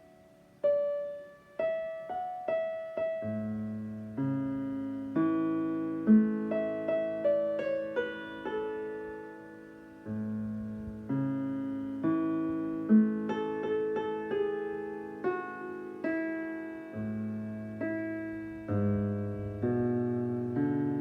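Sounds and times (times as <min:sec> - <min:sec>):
slow digital piano: 0:00.0 - 0:21.0.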